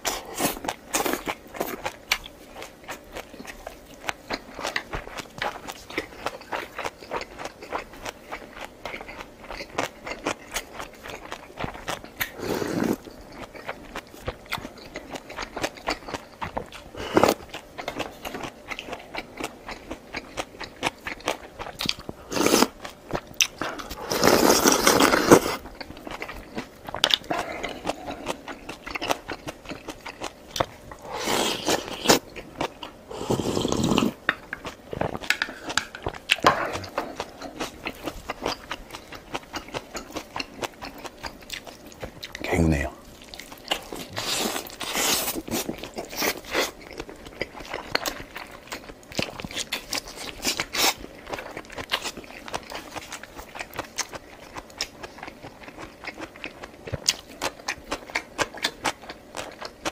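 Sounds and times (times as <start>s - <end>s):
person chewing and crunching food: 0.0s - 59.9s.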